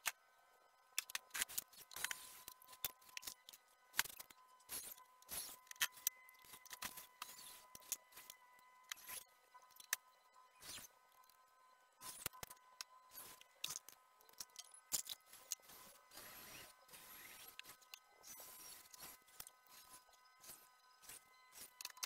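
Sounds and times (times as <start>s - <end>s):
faint steady tone: 0.0s - 22.0s.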